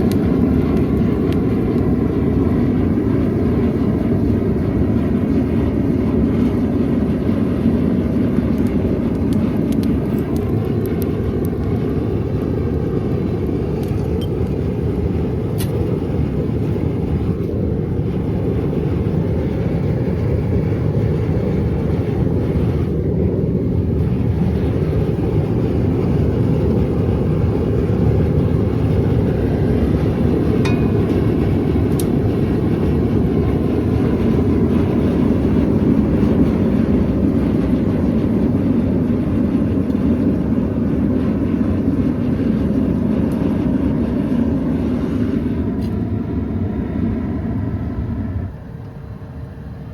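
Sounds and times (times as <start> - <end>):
furnace roaring: 0.0 - 49.9.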